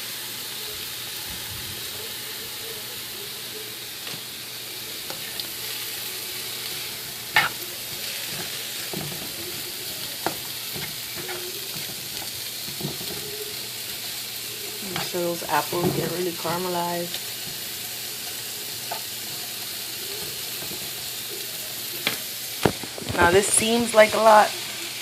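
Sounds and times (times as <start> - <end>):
apples sizzling in a pan: 0.0 - 25.0.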